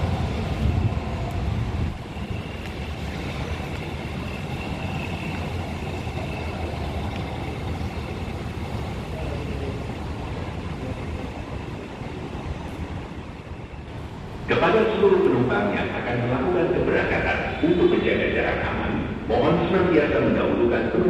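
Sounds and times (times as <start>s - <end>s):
faint high whine: 0.0s - 21.0s
traffic rumble: 0.0s - 21.0s.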